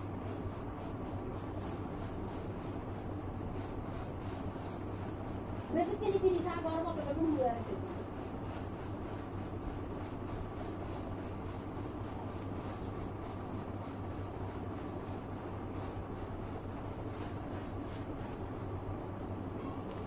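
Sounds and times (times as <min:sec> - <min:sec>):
brush strokes rubbing on paper: 0:00.0 - 0:18.9
steady low hum: 0:00.0 - 0:20.0.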